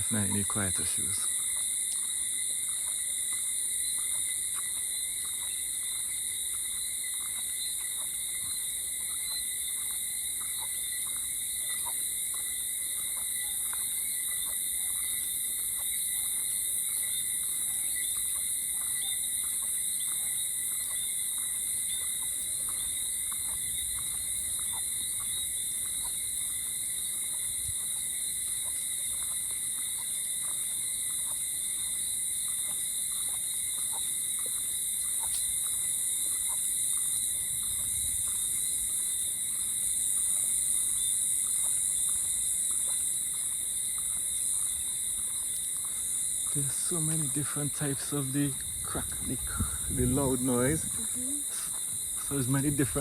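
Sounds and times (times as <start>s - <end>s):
insects and frogs chorus: 0.0s - 53.0s.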